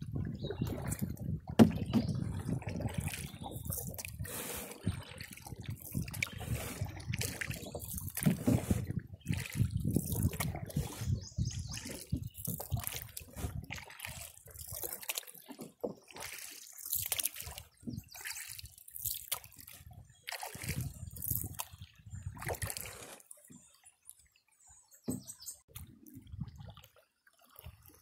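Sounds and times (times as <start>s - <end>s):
paddles pulling through water: 0.0s - 28.0s
water dripping off paddles: 0.1s - 11.0s, 11.6s - 24.4s.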